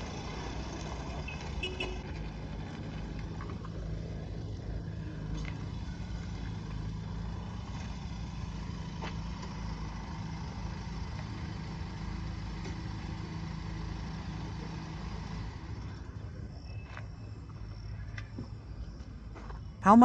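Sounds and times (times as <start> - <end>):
car engine running: 0.0 - 19.7.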